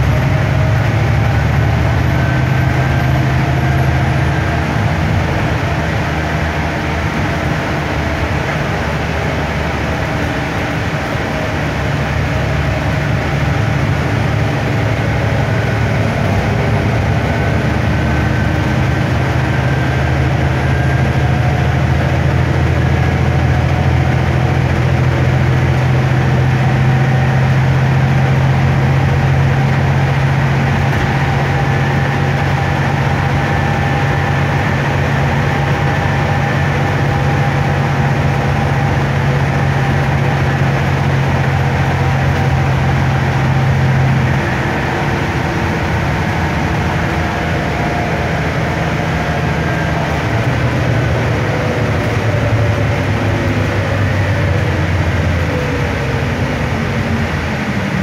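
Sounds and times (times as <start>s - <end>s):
bus engine drone: 0.0s - 58.0s
road and tyre noise: 0.0s - 58.0s.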